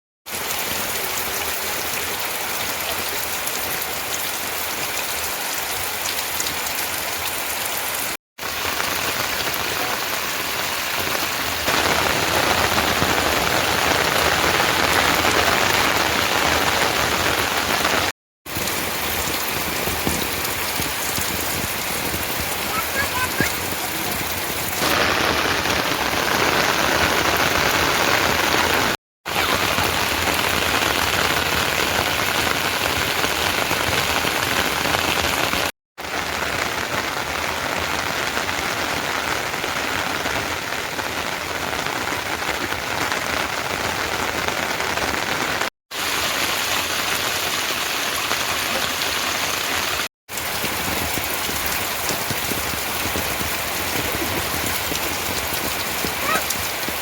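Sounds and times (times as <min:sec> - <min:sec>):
heavy rain: 0:00.2 - 0:57.0.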